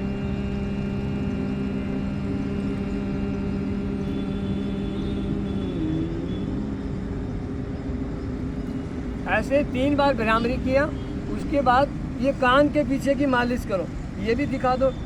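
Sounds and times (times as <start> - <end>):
constant low rumble: 0.0 - 14.9.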